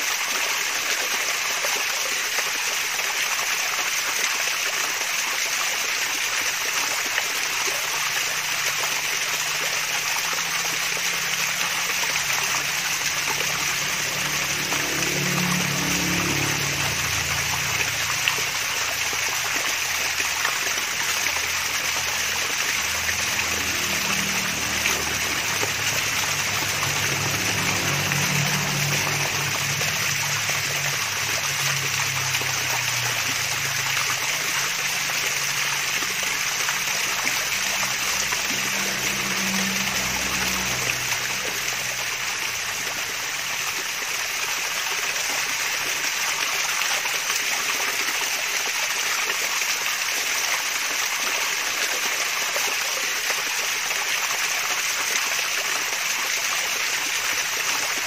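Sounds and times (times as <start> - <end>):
waterfall splashing and babbling: 0.0 - 58.0.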